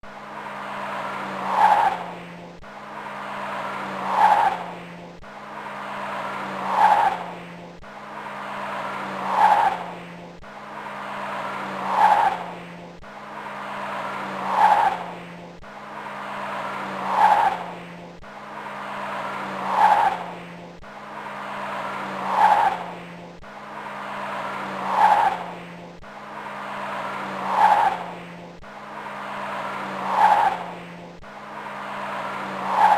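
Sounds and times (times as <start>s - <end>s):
flat tyre scrubbing and squealing: 0.0s - 32.9s
low engine hum: 0.0s - 32.9s.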